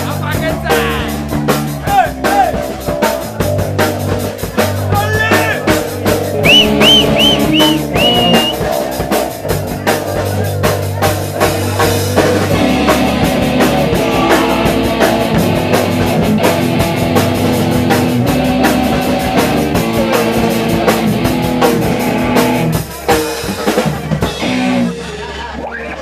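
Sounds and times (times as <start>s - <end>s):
live punk rock band playing: 0.0s - 26.0s.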